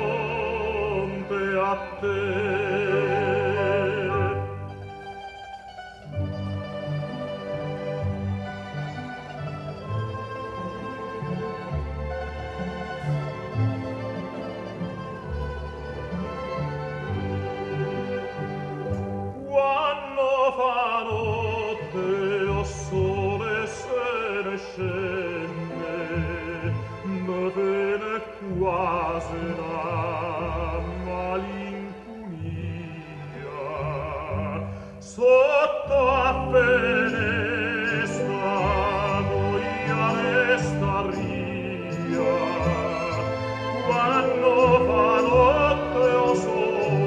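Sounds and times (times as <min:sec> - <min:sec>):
operatic singing with vibrato: 0:00.0 - 0:47.0
orchestral accompaniment: 0:00.0 - 0:47.0.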